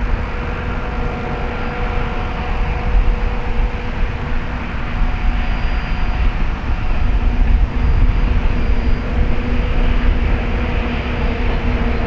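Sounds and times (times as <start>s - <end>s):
diesel locomotive deep rumble: 0.0s - 12.0s
faint turbocharger whistle: 0.2s - 12.0s.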